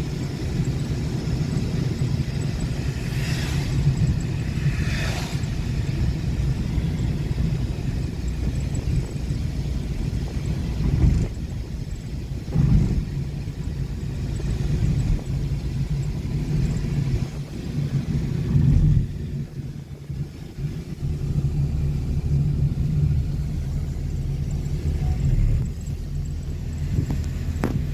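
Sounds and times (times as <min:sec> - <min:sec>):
vehicle engine and road rumble: 0:00.0 - 0:27.9.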